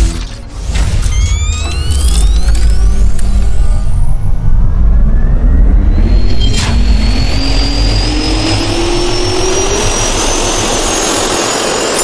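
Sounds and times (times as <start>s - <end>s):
jet engine spooling up: 1.1s - 12.0s.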